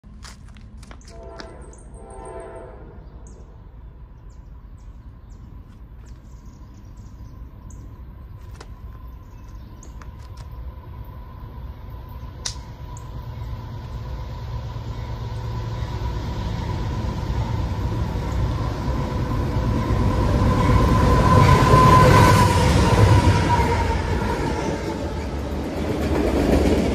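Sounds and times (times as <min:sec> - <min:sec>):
freight train rumble: 0:00.0 - 0:26.9.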